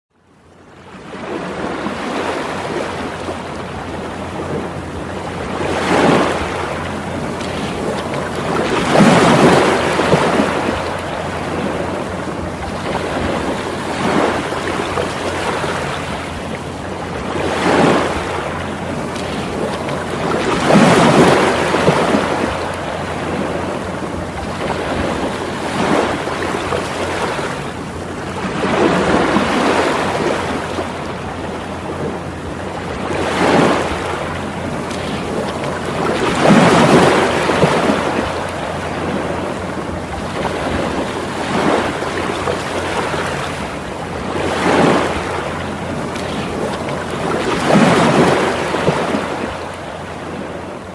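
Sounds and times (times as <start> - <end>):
ocean waves washing on shore: 0.1 - 50.9.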